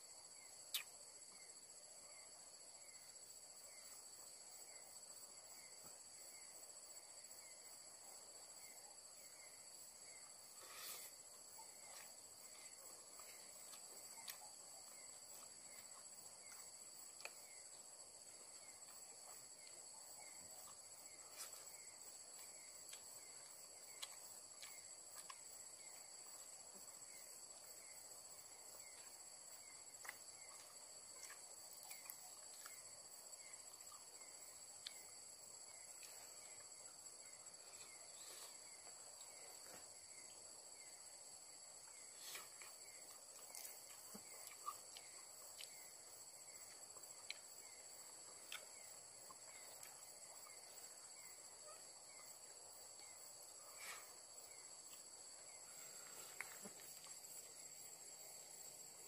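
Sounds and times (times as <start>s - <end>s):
insects droning: 0.0s - 59.0s
soft cricket chirp: 0.0s - 59.0s.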